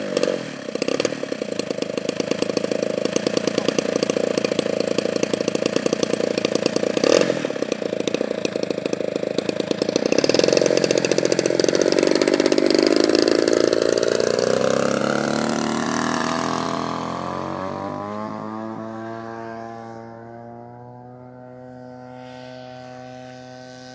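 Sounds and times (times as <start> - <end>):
model plane engine revving: 0.0 - 23.9.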